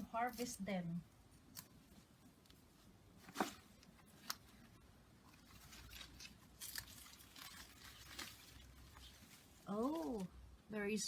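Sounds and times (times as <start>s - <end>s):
rustling of plants and soil: 0.0s - 11.0s.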